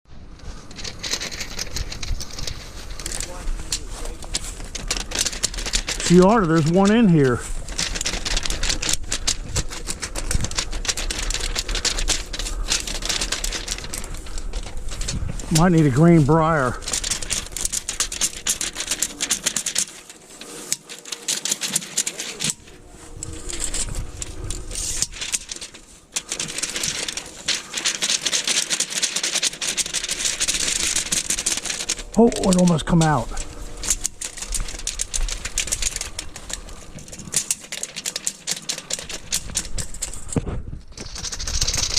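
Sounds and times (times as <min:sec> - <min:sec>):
dry leaves crunching underfoot: 0:00.4 - 0:38.3.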